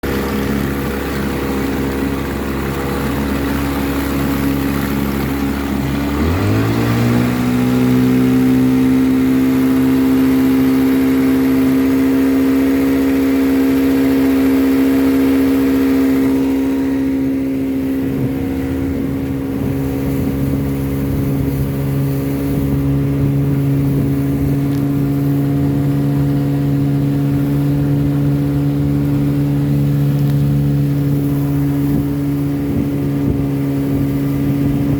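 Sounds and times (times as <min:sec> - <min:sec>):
outboard motor running: 0:00.0 - 0:34.9.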